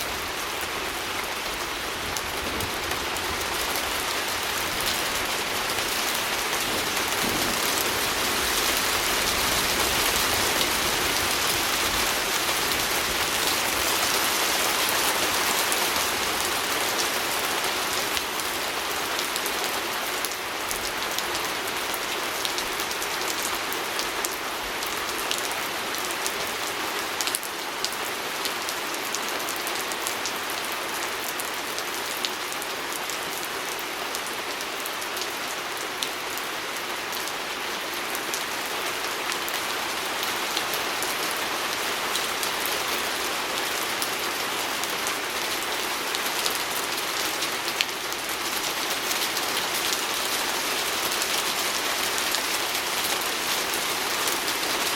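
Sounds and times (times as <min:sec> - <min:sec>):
rain pattering on a window: 0:00.1 - 0:54.9.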